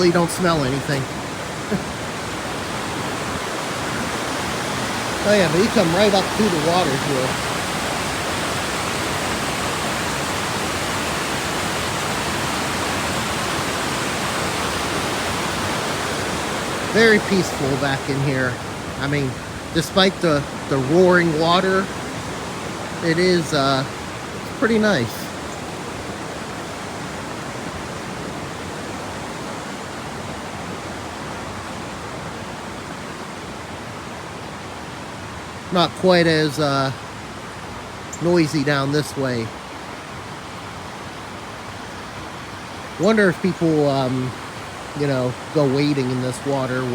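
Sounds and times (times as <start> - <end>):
water rushing over rocks: 0.0 - 46.9.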